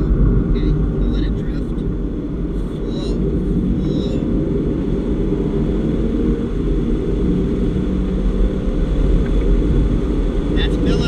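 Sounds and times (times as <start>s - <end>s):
car engine under load: 0.0s - 11.0s
road and wind noise: 0.0s - 11.0s.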